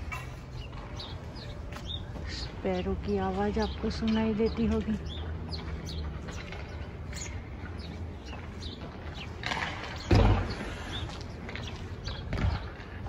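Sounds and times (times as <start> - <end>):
small birds chirping: 0.0 - 13.0
footsteps walking: 0.3 - 13.0.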